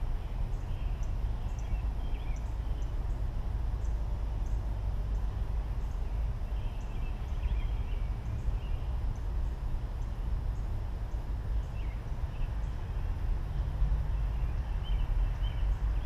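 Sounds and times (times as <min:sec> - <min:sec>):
distant bird chirps: 0:00.0 - 0:16.0
low outdoor rumble: 0:00.0 - 0:16.0.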